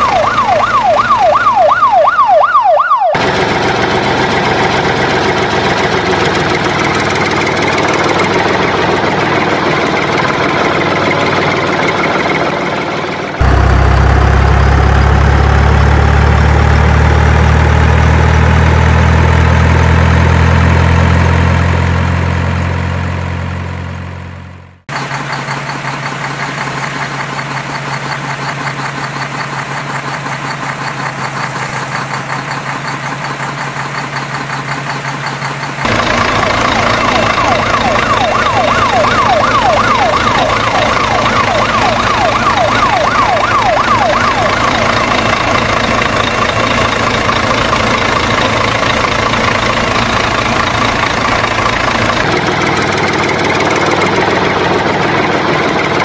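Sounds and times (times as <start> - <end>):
deep loud engine rising in pitch: 0.0 - 56.0
engine idling: 0.0 - 56.0
rough-running engine: 0.0 - 56.0.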